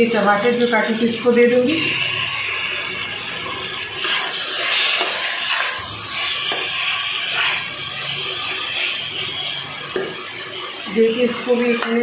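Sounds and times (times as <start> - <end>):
vegetables sizzling in hot oil: 0.0 - 12.0
spatula stirring: 0.6 - 12.0.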